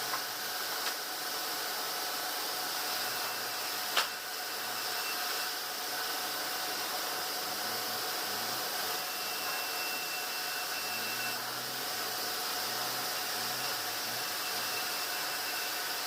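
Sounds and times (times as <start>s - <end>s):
sawmill machinery running: 1.8s - 16.0s
faint machine whine: 3.0s - 16.0s.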